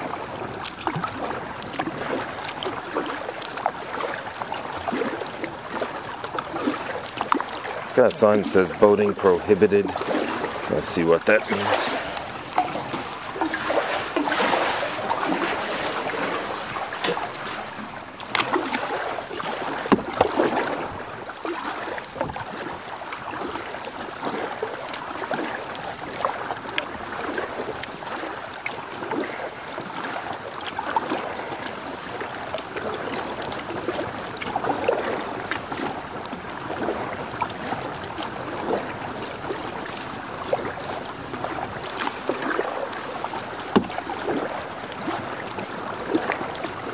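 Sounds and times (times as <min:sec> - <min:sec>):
paddle splashing in water: 0:00.0 - 0:46.9.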